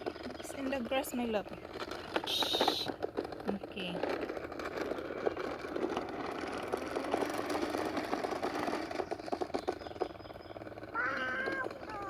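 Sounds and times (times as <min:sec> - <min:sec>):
toy motor whirring: 0:00.0 - 0:12.0.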